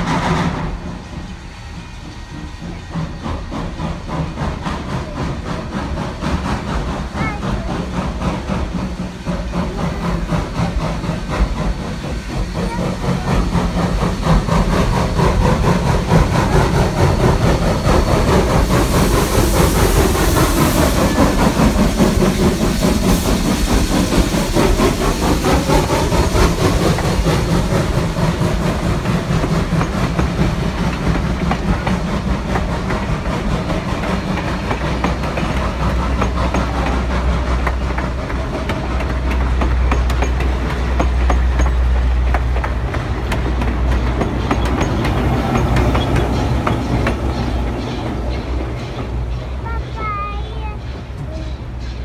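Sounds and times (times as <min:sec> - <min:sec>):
diesel locomotive drone: 0:00.0 - 0:52.0
steam locomotive exhaust: 0:00.0 - 0:52.0
train wheels clicking over rail joints: 0:00.0 - 0:52.0.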